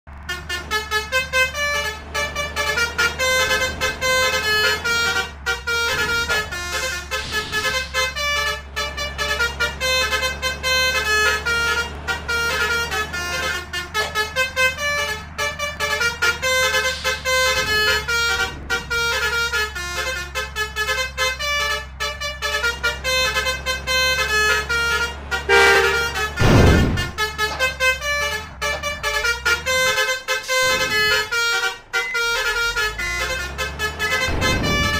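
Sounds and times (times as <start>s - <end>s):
engine hum: 0.0s - 34.9s
musical bus horn tune: 0.1s - 34.9s.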